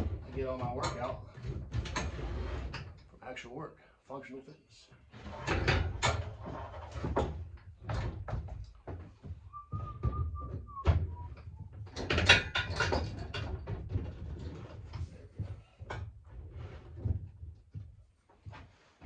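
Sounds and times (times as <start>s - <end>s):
metal knocks and clunks: 0.0s - 3.1s, 5.2s - 18.0s.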